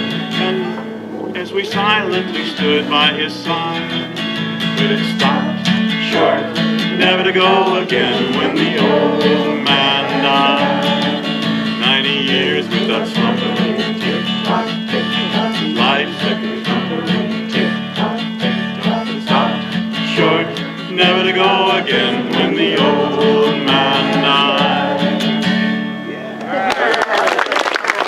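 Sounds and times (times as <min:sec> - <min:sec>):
acoustic guitar plucking: 0:00.0 - 0:26.5.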